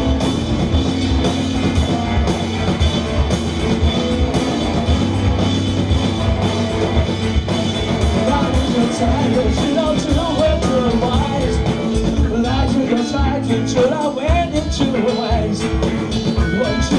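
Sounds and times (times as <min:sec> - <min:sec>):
drum kit steady beat: 0:00.0 - 0:16.9
live rock band playing: 0:00.0 - 0:16.9.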